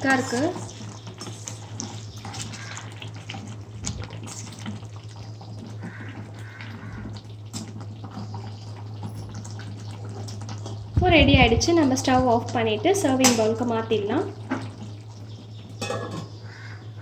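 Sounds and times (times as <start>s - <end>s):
curry bubbling in a pan: 0.0s - 17.0s.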